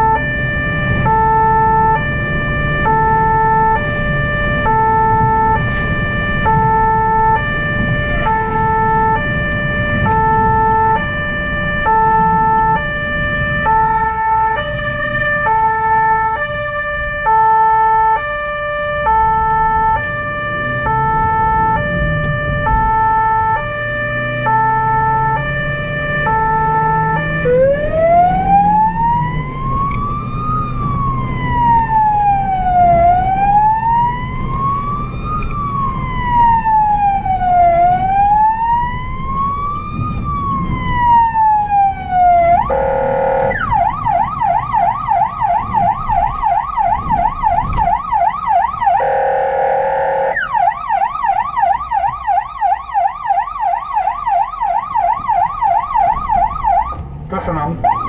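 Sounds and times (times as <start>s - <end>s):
emergency vehicle siren: 0.0s - 58.0s
low rumble of moving vehicle: 0.0s - 58.0s.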